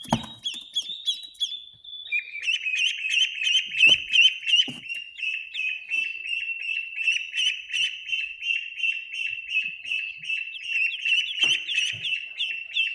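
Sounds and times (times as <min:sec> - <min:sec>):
ducklings peeping: 0:00.0 - 0:12.9.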